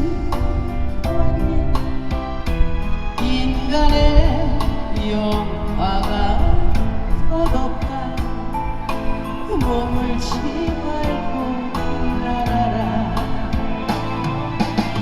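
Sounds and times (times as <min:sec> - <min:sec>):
woman singing: 0:00.0 - 0:02.2, 0:03.2 - 0:14.0
backing track with drum beat: 0:00.0 - 0:15.0.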